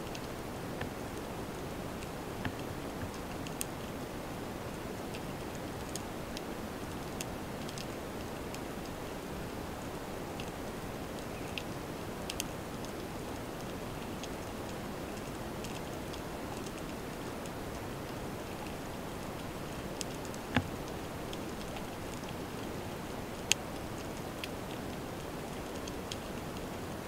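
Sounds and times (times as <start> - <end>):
faint clicks and crackles: 0.0 - 27.0.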